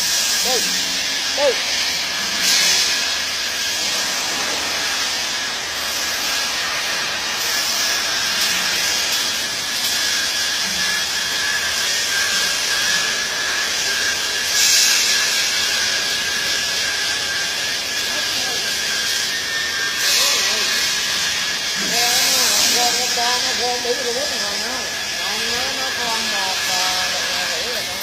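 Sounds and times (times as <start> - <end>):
welding arc hissing: 0.0 - 28.0.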